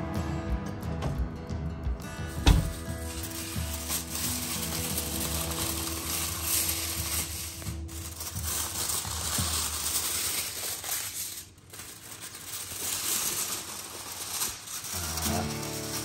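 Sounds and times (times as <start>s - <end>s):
aluminium foil crinkling: 2.3s - 16.0s.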